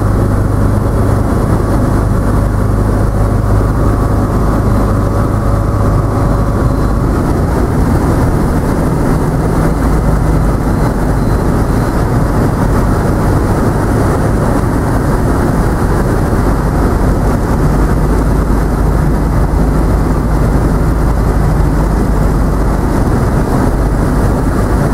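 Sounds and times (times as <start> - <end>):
light aircraft engine and propeller: 0.0 - 24.9
wind noise: 0.0 - 24.9.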